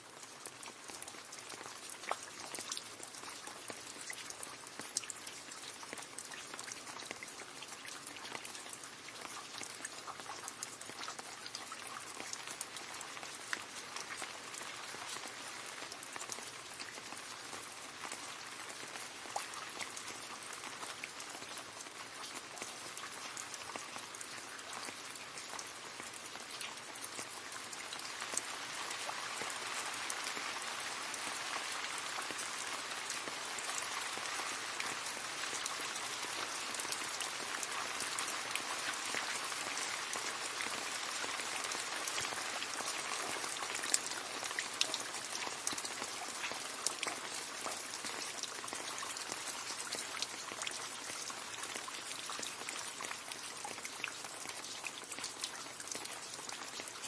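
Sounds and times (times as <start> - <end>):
rain splashing into a puddle: 0.0 - 57.0.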